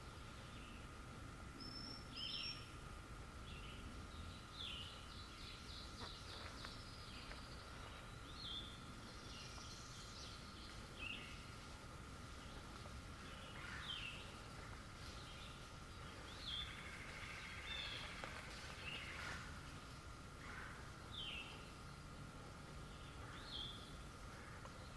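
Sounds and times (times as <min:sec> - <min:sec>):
faint songbird chirping: 0:00.0 - 0:24.9.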